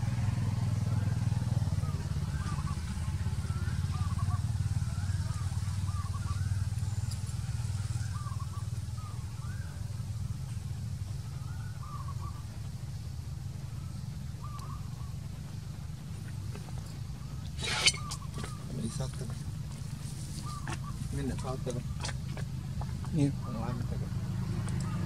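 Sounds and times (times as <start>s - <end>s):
faint short chirping calls: 0.8s - 22.2s.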